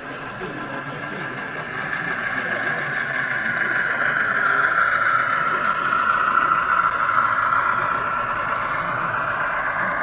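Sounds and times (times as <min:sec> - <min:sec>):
model train whirring hum: 0:00.0 - 0:10.0.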